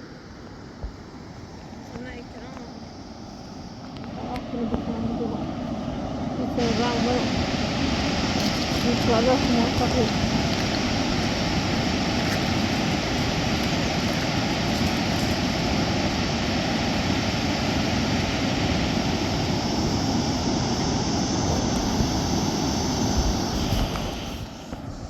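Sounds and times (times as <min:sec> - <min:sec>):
river water rushing: 0:02.8 - 0:24.6.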